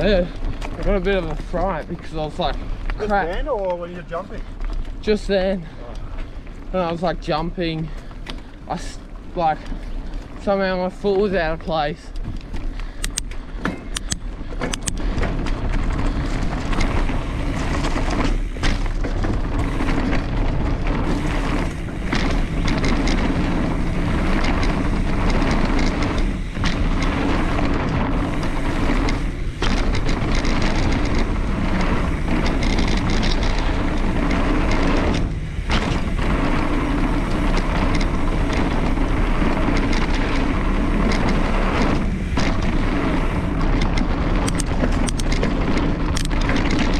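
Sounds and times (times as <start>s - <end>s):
bike rattling on rough trail: 0.0s - 46.9s
wind rushing over microphone: 0.0s - 46.9s.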